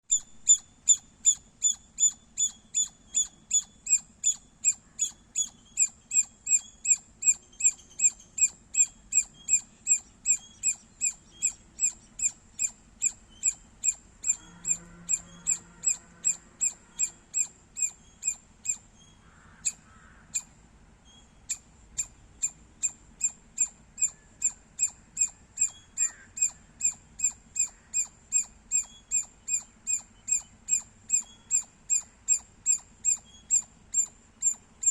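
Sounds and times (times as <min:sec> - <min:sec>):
squirrel chirping: 0:00.1 - 0:34.9.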